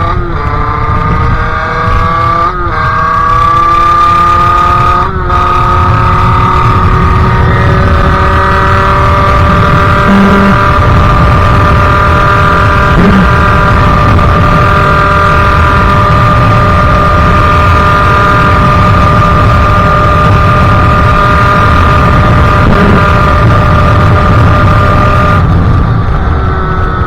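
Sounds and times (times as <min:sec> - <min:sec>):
two-stroke engine at high revs: 0:00.0 - 0:27.0.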